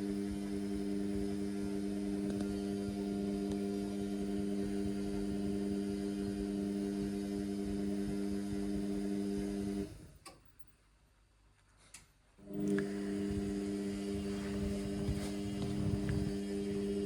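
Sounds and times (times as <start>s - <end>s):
washing machine humming: 0.0s - 10.1s, 12.4s - 17.0s.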